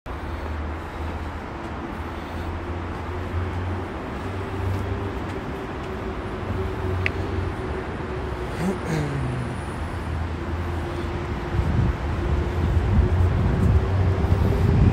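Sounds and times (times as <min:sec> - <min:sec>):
road traffic hum: 0:00.1 - 0:14.9.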